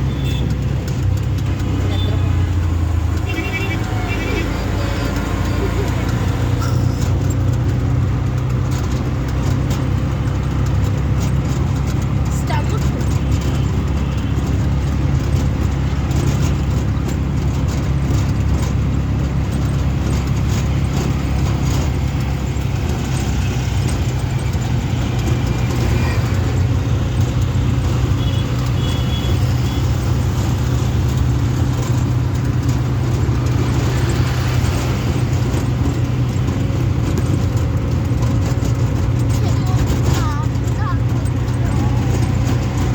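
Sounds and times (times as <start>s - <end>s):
auto rickshaw engine running: 0.0s - 42.9s
road noise: 0.0s - 42.9s.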